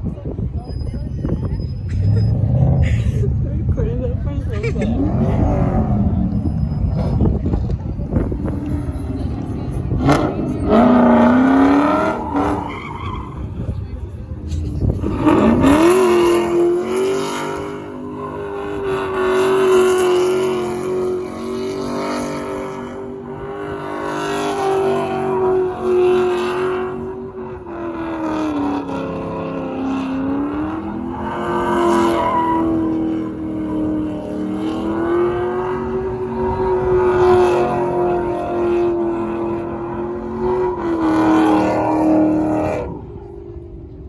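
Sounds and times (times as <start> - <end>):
vehicle engine revving: 1.2 - 44.0.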